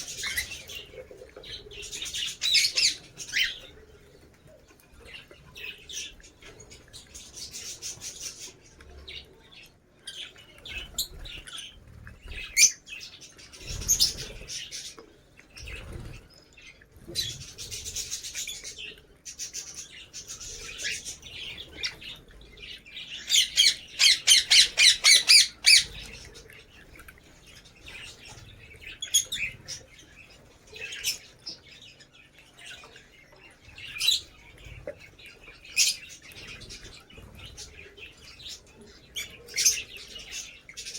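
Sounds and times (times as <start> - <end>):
lovebirds chattering and squawking: 0.0 - 40.9.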